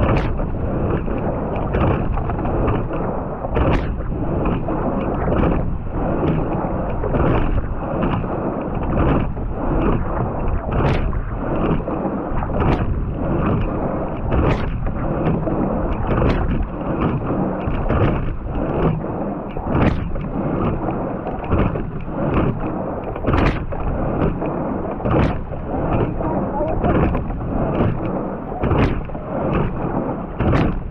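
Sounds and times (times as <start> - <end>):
water rushing along boat hull: 0.0 - 30.9.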